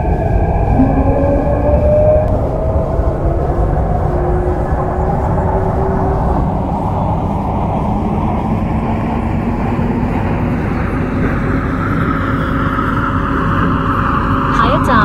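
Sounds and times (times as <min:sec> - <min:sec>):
train traction motors whining: 0:00.0 - 0:15.0.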